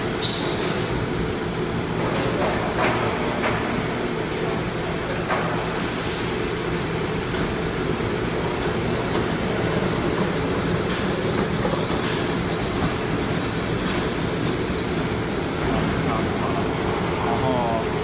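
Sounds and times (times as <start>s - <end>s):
workshop machinery running: 0.0s - 18.0s.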